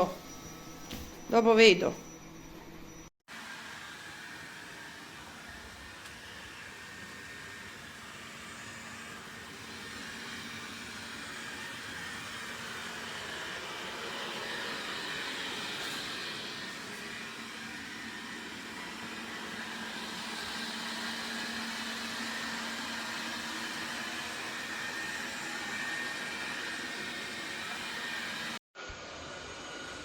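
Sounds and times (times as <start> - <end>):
robot vacuum running: 0.0 - 30.0.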